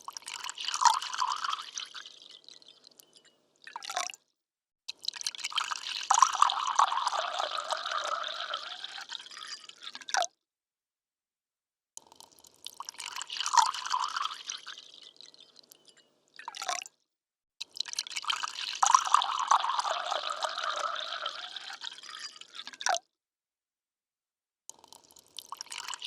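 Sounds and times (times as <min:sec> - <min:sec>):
water pouring into a glass: 0:00.0 - 0:04.2, 0:04.9 - 0:10.3, 0:12.0 - 0:16.9, 0:17.6 - 0:23.0, 0:24.7 - 0:26.0.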